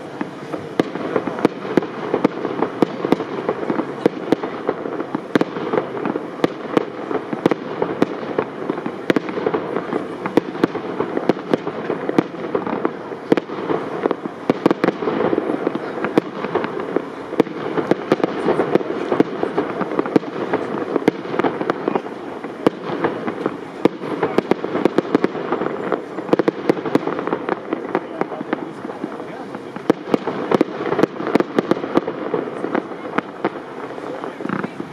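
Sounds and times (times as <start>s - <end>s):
firework bangs: 0.0s - 34.9s
fireworks crackling: 0.0s - 34.9s.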